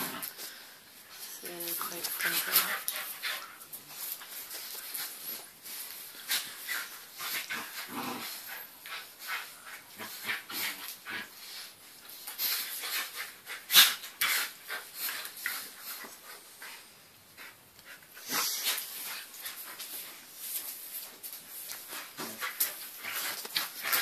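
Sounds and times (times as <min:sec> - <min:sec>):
dogs scuffling on tiled floor: 0:00.0 - 0:24.0.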